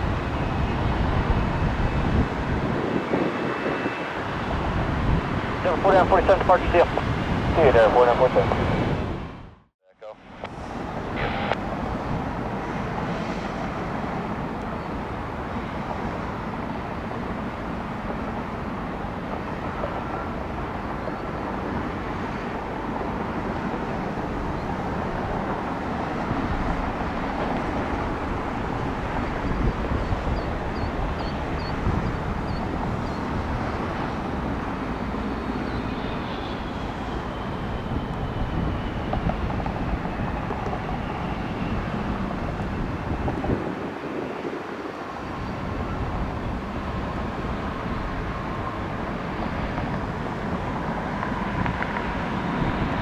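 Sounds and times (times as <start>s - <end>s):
jet airliner engine rushing: 0.0s - 53.0s.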